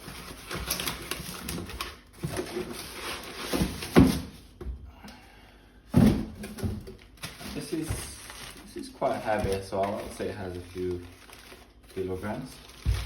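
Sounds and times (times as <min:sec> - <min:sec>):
packaging rustling: 0:00.0 - 0:04.3, 0:06.5 - 0:13.0.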